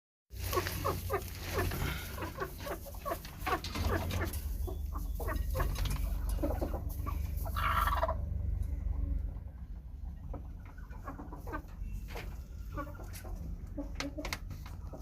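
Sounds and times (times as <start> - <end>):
hen clucking: 0.4 - 15.0.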